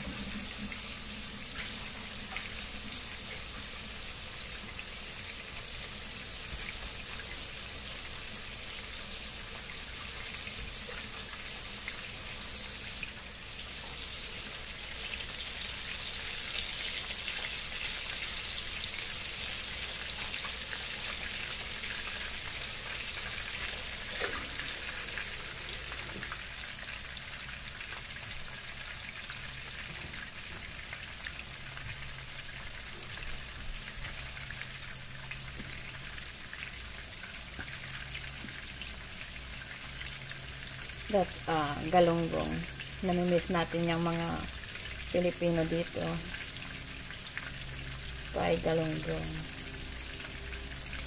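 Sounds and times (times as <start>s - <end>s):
fish sizzling in hot oil: 0.0s - 51.0s.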